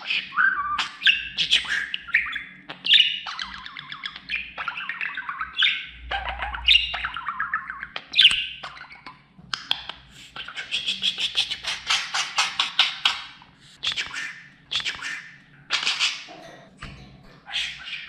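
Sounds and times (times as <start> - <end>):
budgerigar warbling and chattering: 0.0 - 16.6, 17.4 - 18.0.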